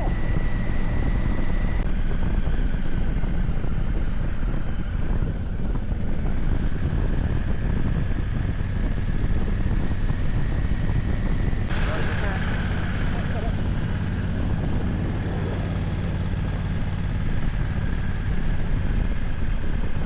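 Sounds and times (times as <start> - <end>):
car road and engine noise: 0.0 - 20.0
faint high whine: 0.0 - 20.0.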